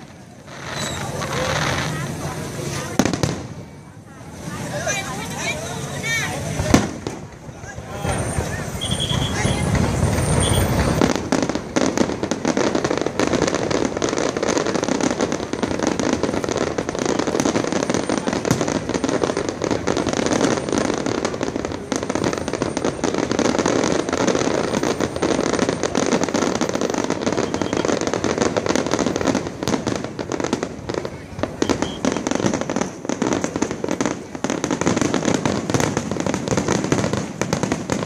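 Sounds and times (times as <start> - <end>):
fireworks crackling and popping: 0.0 - 38.0.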